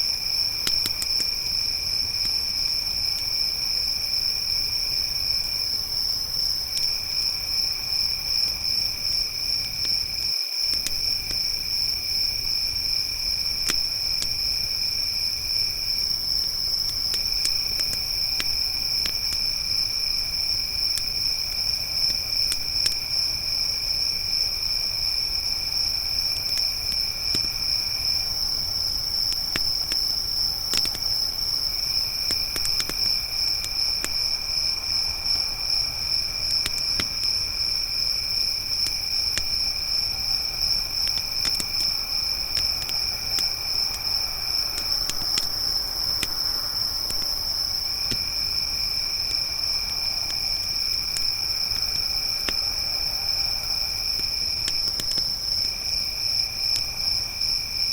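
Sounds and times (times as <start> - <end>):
campfire crackling: 0.0 - 57.9
crickets chirping: 0.0 - 57.9
low rumble of fire: 0.0 - 57.9
lower insect trill: 0.0 - 57.9.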